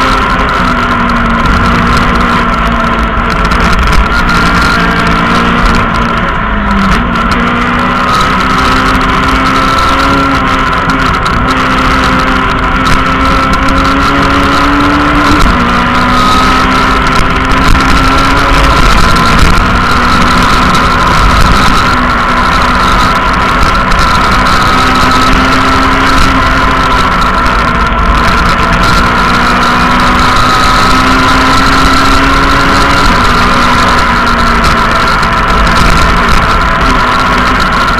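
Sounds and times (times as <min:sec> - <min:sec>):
rally car engine with gear changes: 0:00.0 - 0:37.9
road and wind noise: 0:00.0 - 0:37.9.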